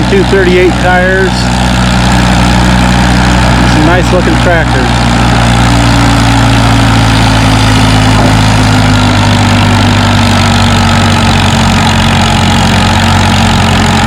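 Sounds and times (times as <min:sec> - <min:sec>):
tractor engine under heavy load: 0:00.0 - 0:14.0.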